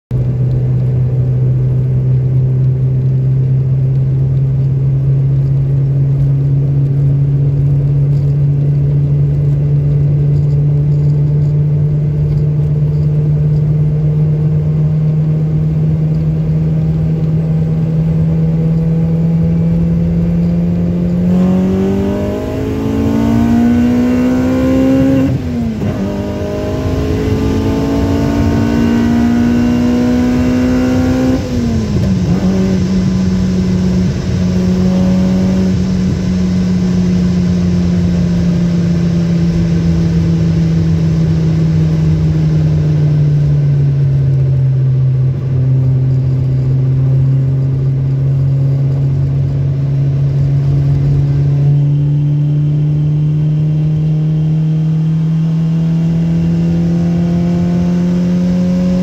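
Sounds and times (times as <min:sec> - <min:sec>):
race car engine revving: 0:00.4 - 0:59.0.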